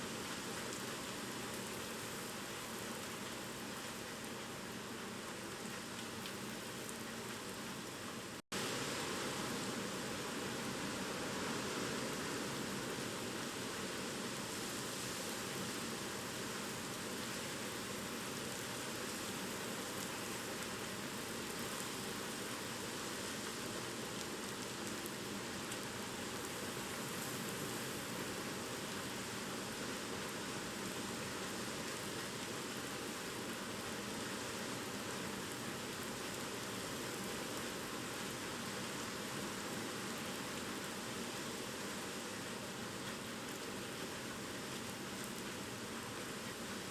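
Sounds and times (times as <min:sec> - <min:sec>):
heavy rain and wind: 0:00.0 - 0:46.9.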